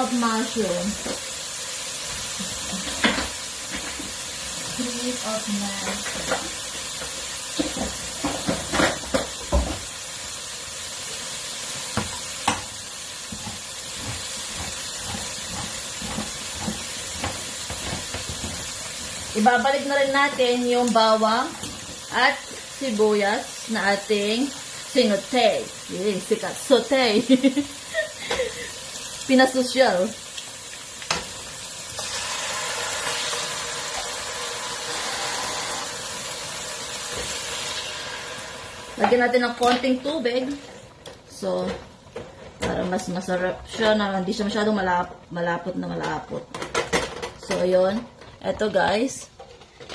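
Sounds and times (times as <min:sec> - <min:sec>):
chicken sizzling in oil: 0:00.0 - 0:41.6.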